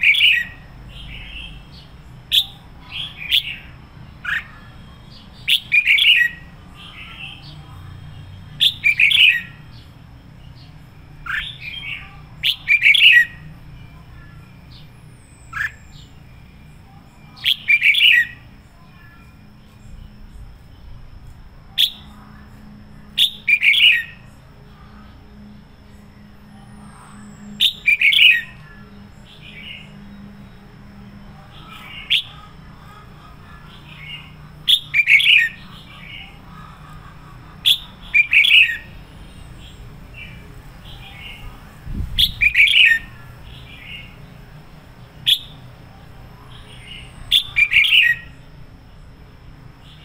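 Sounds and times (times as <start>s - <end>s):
bird singing warbling phrases: 0.0s - 50.0s.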